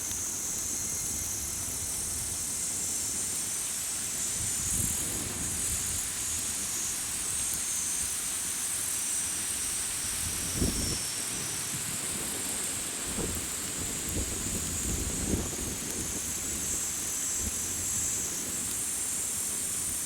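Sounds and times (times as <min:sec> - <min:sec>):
campfire popping: 0:00.0 - 0:02.8, 0:03.4 - 0:20.0
campfire flickering: 0:00.0 - 0:20.0.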